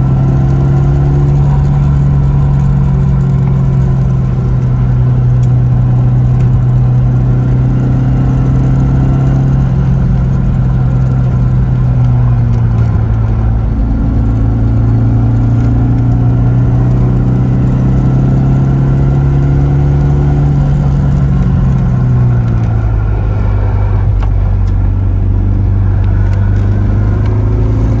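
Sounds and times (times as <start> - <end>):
car engine cruising: 0.0 - 28.0.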